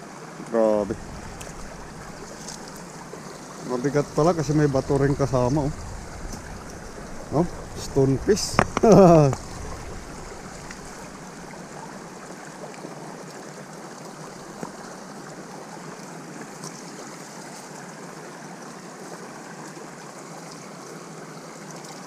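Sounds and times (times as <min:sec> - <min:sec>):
flowing stream rushing: 0:00.0 - 0:22.0.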